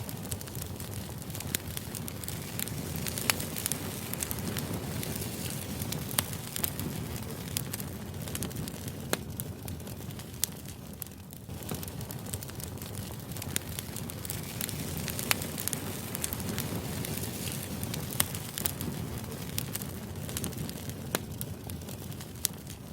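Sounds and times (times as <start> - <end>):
sharp crackles and pops: 0.0 - 22.9.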